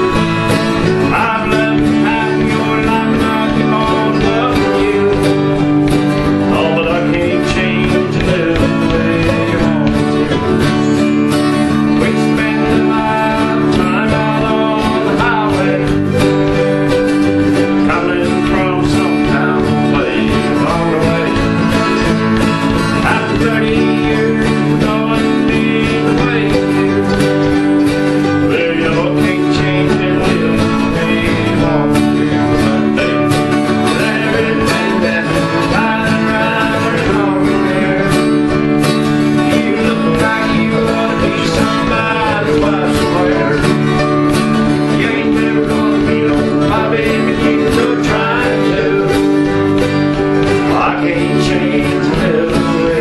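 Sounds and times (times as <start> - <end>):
acoustic guitars country tune: 0.0 - 53.0.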